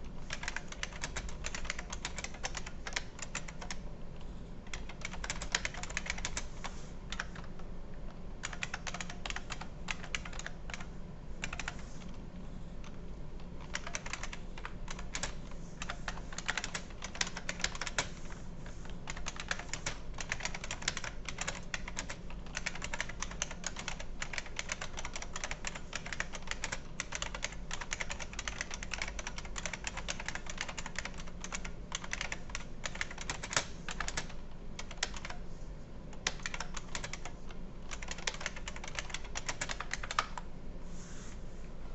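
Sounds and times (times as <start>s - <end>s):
clicky keyboard typing: 0.2s - 6.5s, 7.1s - 12.2s, 12.8s - 18.2s, 18.9s - 35.4s, 36.1s - 40.5s.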